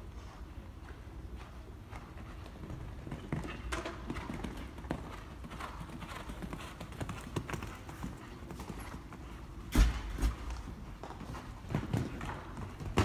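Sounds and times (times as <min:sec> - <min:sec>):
horse hoofbeats on sand: 0:00.1 - 0:13.0.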